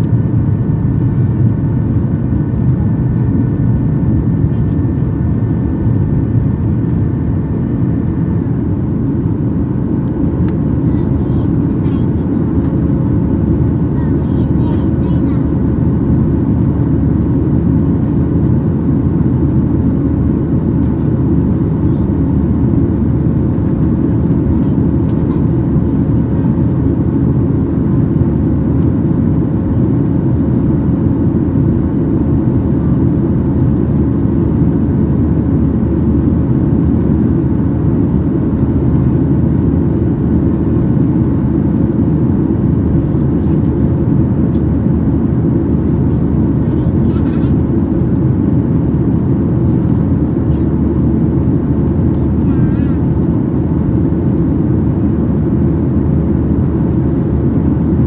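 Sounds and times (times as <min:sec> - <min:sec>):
aircraft cabin deep rumble: 0:00.0 - 0:58.0
faint jet engine whine: 0:00.0 - 0:58.0.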